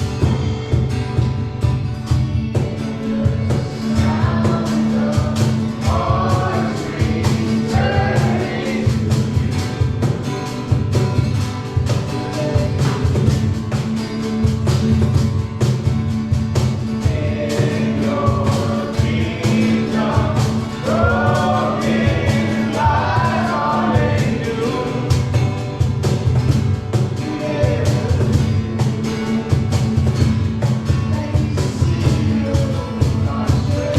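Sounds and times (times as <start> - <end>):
bass and drums beat: 0.0 - 33.9
people singing: 2.7 - 13.5, 16.6 - 33.9.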